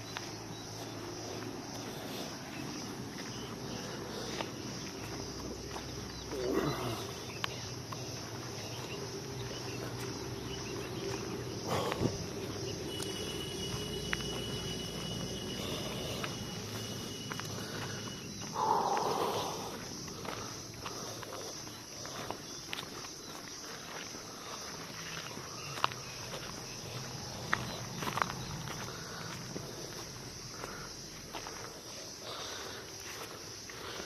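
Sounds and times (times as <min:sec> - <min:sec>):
countryside ambience: 0:00.0 - 0:34.0.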